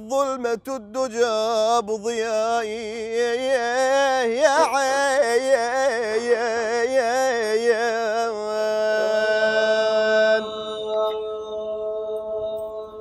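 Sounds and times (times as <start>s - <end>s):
man singing unaccompanied: 0.0s - 10.6s.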